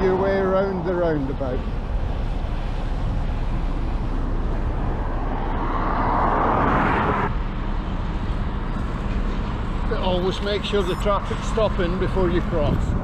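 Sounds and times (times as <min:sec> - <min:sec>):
wind and traffic rumble: 0:00.0 - 0:13.0.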